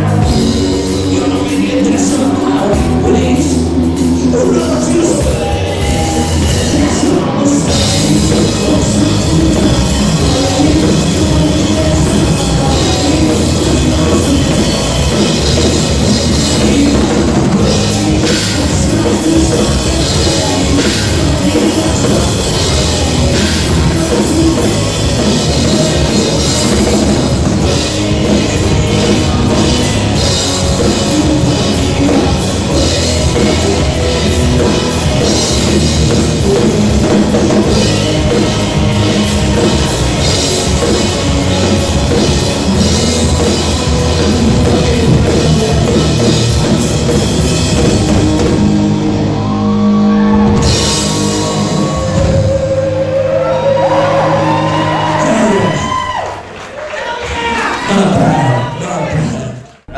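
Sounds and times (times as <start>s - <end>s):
drum kit: 0.0s - 58.7s
rock band playing: 0.0s - 59.9s.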